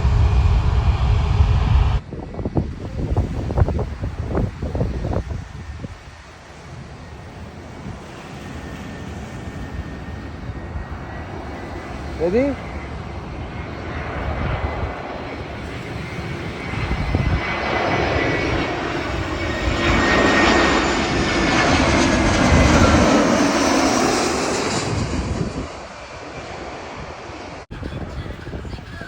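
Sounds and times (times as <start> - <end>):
jet airliner flying overhead: 0.0 - 29.0.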